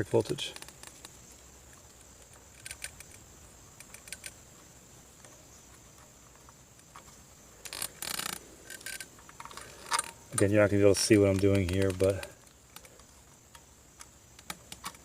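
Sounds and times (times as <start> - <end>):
small parts clicking and rattling: 0.0 - 15.0.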